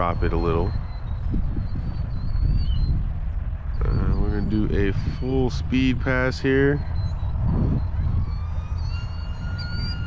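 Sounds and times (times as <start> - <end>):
electric motor and propeller whine: 0.0 - 10.0
steady low rumble: 0.0 - 10.0.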